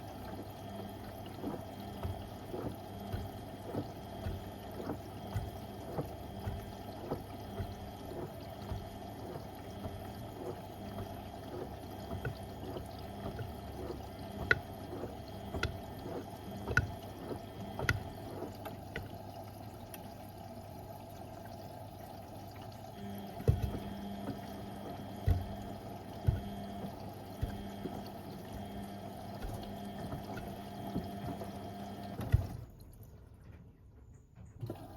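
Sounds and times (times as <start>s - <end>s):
washing machine running: 0.0s - 34.9s
water sloshing in drum: 0.0s - 34.9s.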